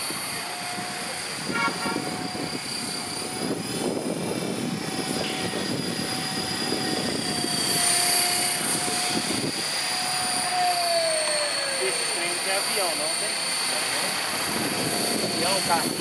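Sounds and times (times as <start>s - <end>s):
model helicopter motor whine: 0.0s - 16.0s.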